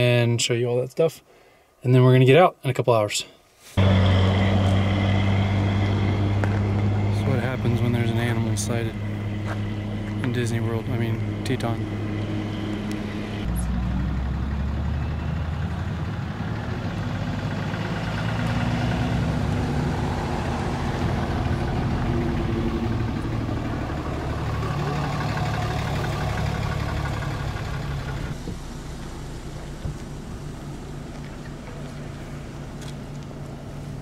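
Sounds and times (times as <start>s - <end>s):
vehicle engine humming: 3.8s - 34.0s.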